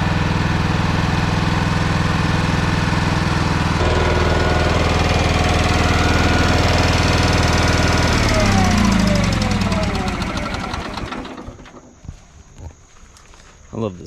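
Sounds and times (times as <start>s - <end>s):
small gasoline engine running: 0.0s - 11.9s.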